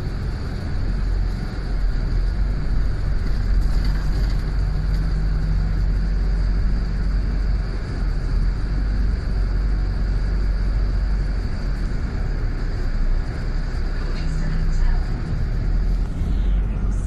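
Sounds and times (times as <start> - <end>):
bus engine rumble: 0.0 - 17.0
road noise: 0.0 - 17.0.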